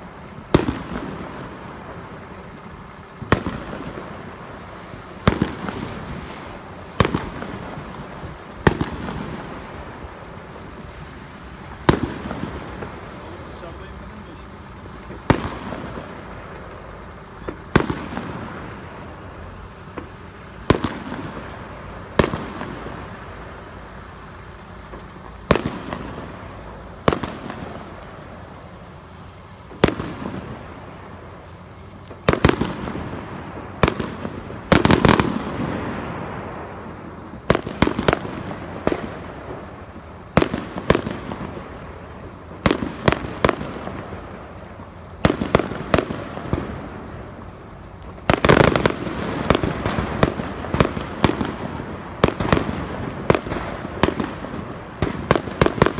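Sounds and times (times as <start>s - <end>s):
firework shells bursting: 0.0s - 10.9s, 11.6s - 55.9s
firework crackle: 0.0s - 55.9s.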